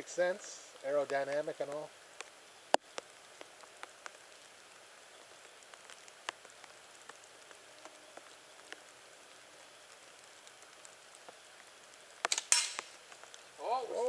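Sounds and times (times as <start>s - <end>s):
light ticks and pattering: 0.0s - 14.0s
outdoor background hiss: 0.0s - 14.0s.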